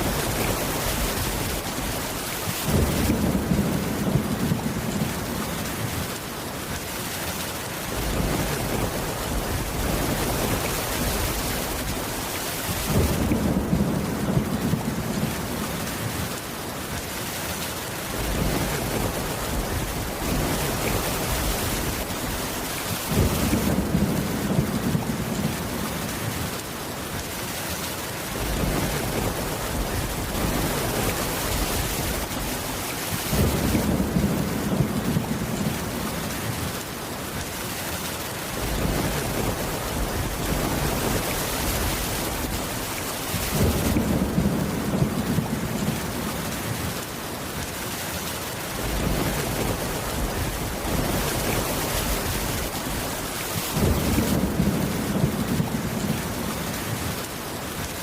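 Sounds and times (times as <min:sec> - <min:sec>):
low thunder rumbles: 0:00.0 - 0:06.2, 0:07.9 - 0:16.4, 0:18.1 - 0:26.5, 0:28.3 - 0:36.8, 0:38.5 - 0:47.0, 0:48.8 - 0:57.2
heavy rain: 0:00.0 - 0:58.0.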